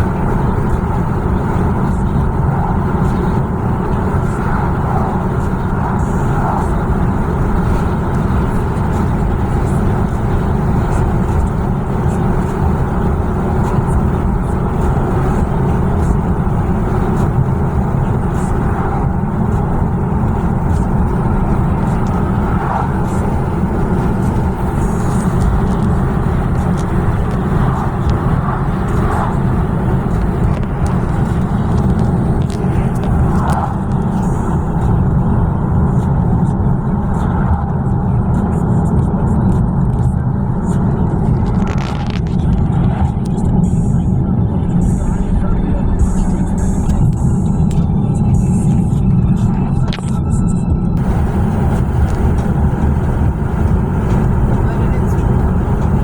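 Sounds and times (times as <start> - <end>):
motor vehicle driving rumble: 0.0 - 56.0.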